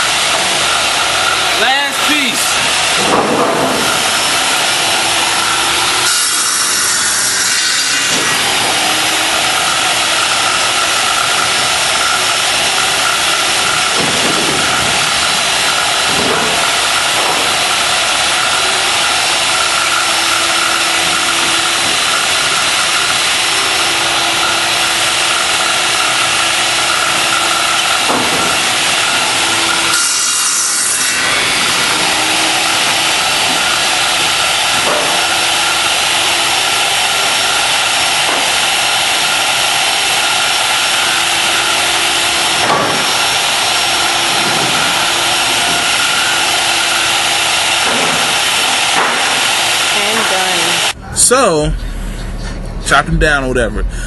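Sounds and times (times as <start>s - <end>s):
power saw cutting wood: 0.0s - 51.0s.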